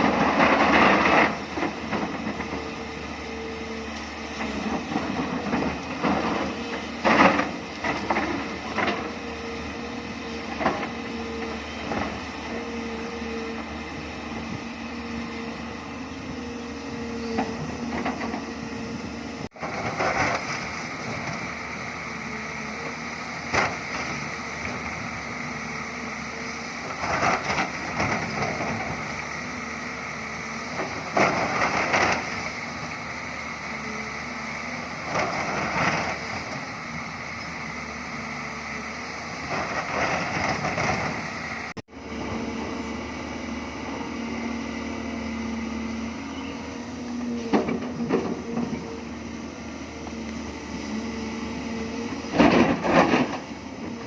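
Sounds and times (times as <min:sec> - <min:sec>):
excavator engine hum: 0:00.0 - 0:54.0.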